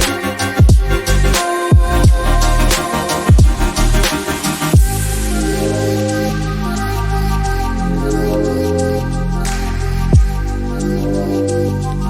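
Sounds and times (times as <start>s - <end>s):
electronic hip-hop music: 0.0s - 12.0s.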